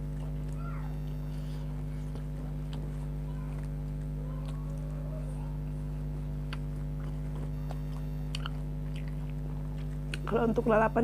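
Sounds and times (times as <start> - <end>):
person chewing food: 0.0 - 10.4
low hum: 0.0 - 11.0.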